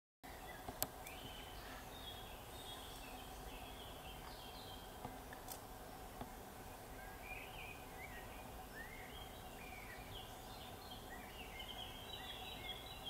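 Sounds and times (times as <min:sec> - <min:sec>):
distant small birds chirping: 0:00.2 - 0:13.0.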